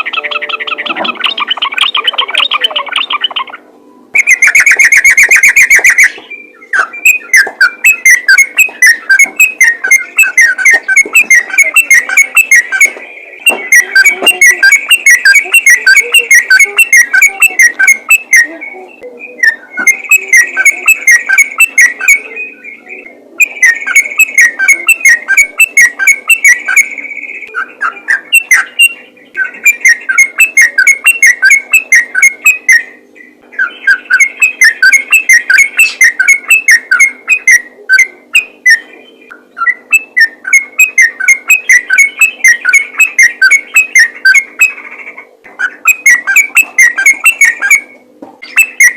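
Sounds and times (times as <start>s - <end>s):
bulbul singing: 0.0s - 48.9s.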